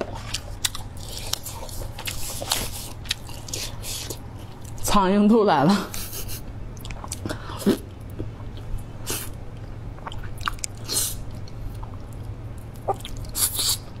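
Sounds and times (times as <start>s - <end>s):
wet chewing and lip-smacking: 0.0s - 4.8s, 6.7s - 14.0s
low steady hum: 0.0s - 14.0s.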